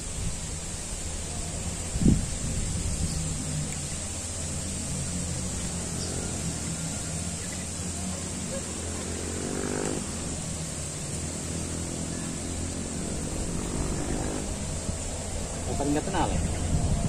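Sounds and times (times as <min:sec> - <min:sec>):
distant engine drone: 0:00.0 - 0:17.0.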